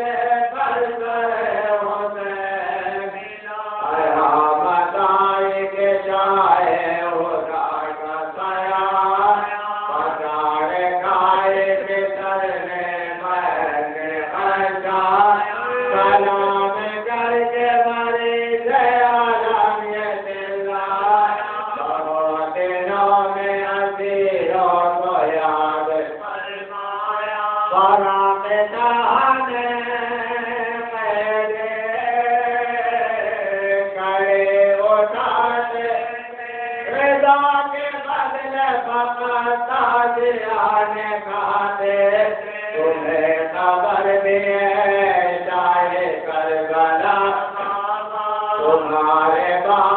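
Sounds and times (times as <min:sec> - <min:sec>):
solo voice chanting: 0:00.0 - 0:49.9.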